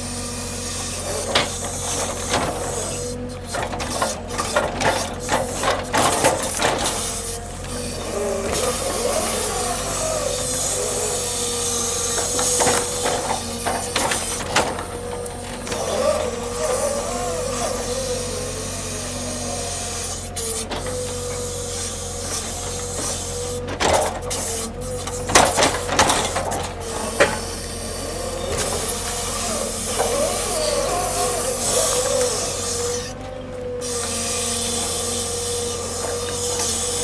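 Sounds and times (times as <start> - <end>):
heavy machinery whine: 0.0 - 37.0
low engine hum: 0.0 - 37.0
knocks and clunks: 0.5 - 37.0.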